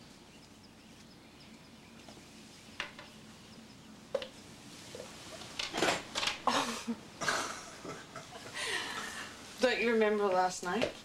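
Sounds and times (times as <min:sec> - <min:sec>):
faint hiss: 0:00.0 - 0:10.9.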